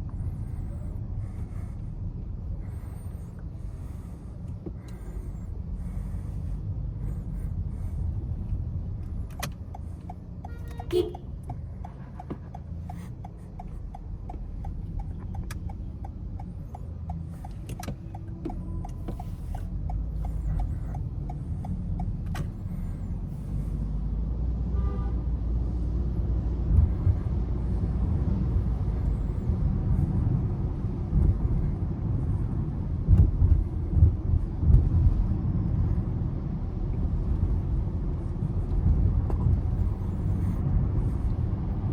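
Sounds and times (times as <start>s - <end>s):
car engine and road rumble: 0.0s - 41.9s
turn signal ticking: 3.3s - 24.1s, 26.0s - 41.9s.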